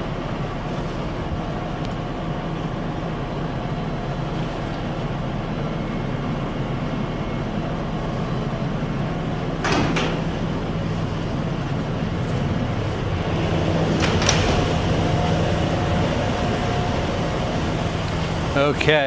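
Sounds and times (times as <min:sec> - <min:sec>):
shop machinery hum: 0:00.0 - 0:19.0.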